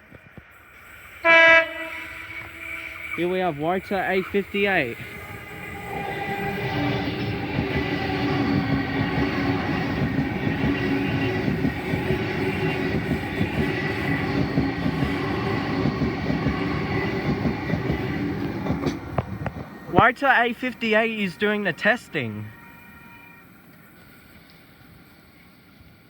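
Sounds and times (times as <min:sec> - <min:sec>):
train hum: 0:00.0 - 0:26.0
train wheels rumbling on rails: 0:00.0 - 0:26.0.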